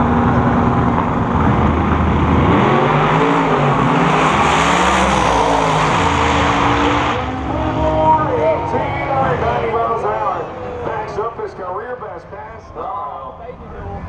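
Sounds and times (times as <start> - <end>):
race car engines at full throttle: 0.0 - 14.0.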